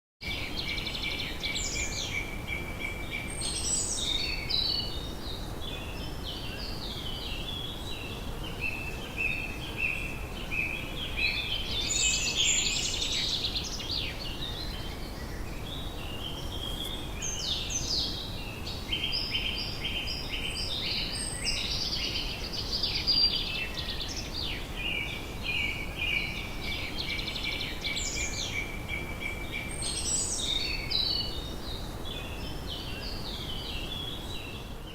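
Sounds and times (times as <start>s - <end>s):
birds singing and chirping: 0.2s - 34.9s
low background noise: 0.2s - 34.9s.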